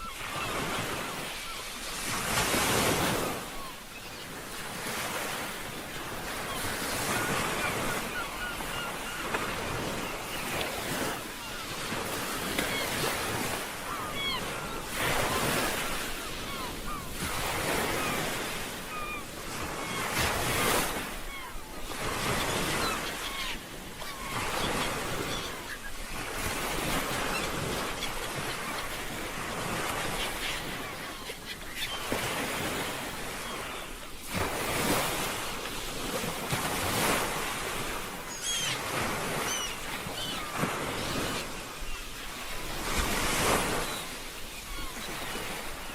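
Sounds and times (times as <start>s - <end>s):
ocean surf washing on shore: 0.0s - 45.9s.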